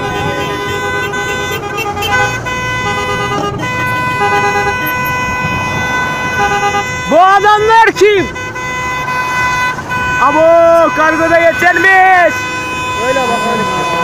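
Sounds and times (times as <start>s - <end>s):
car horns honking: 0.0s - 14.0s
low rumble of slow cars: 0.0s - 14.0s.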